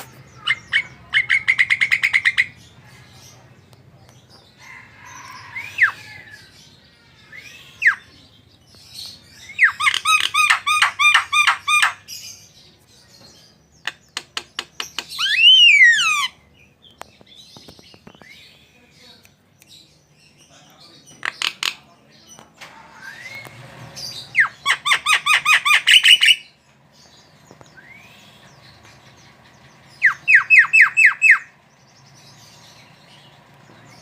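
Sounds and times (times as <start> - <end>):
myna bird calling: 0.0 - 12.6, 13.7 - 19.5, 20.3 - 34.0.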